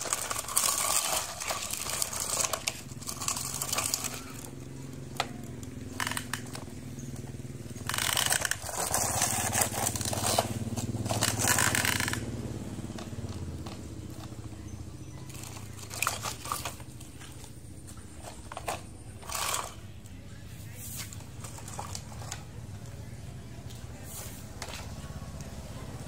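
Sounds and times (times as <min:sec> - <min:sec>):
toy truck wheels crunching on dirt: 0:00.0 - 0:26.0.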